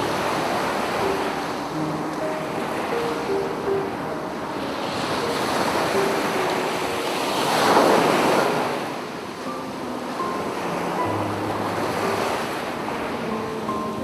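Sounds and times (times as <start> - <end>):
sea waves washing onto beach: 0.0 - 14.0.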